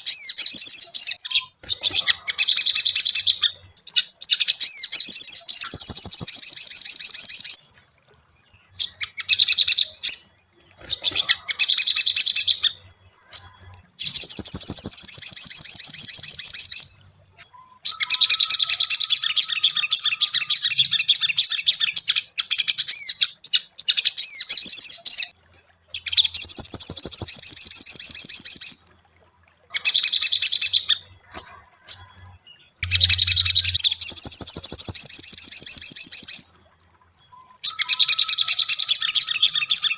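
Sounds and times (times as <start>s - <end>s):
bird rapid high chirping: 0.0s - 29.1s, 29.7s - 39.9s.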